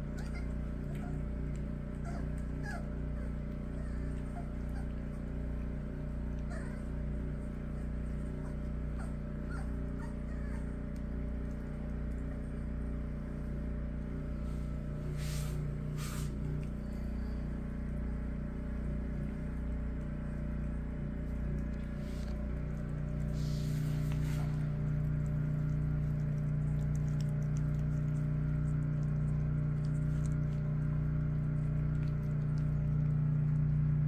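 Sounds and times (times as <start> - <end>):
puppies chewing and smacking: 0.0 - 34.0
steady low hum: 0.0 - 34.0.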